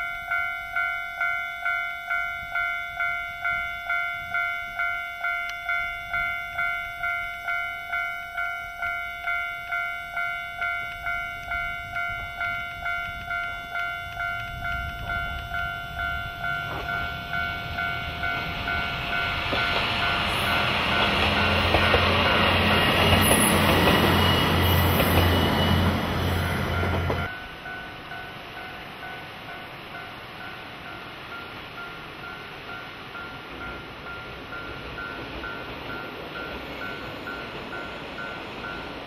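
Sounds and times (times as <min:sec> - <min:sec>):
diesel railcar engine drone: 0:00.0 - 0:39.0
train wheel and rail noise: 0:00.0 - 0:39.0.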